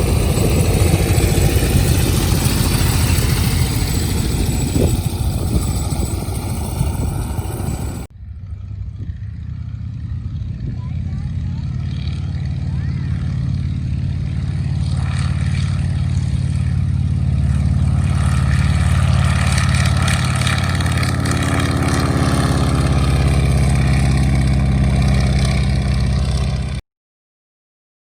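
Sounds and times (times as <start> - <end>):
biplane radial engine running: 0.0 - 26.8.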